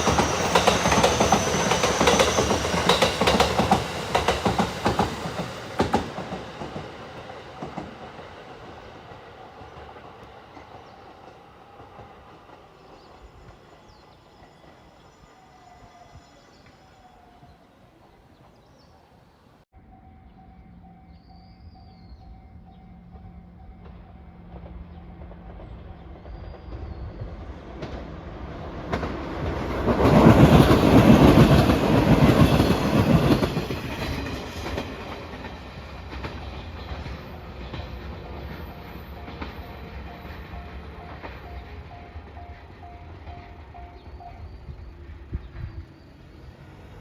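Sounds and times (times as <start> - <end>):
train passing: 0.0 - 47.0.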